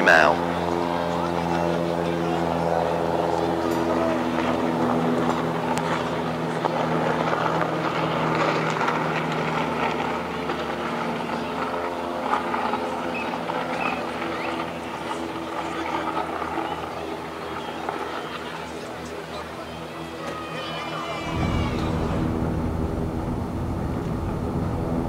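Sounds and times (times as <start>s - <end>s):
crowd murmur: 0.0s - 25.0s
propeller plane droning: 0.0s - 25.0s.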